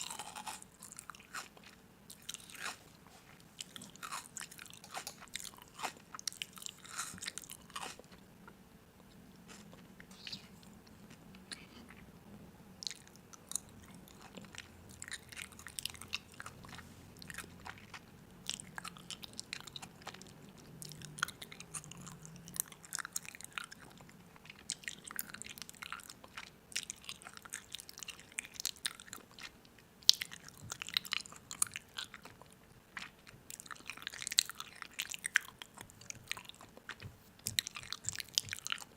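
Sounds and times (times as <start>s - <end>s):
crunchy food chewing: 0.0s - 12.1s, 12.8s - 38.9s.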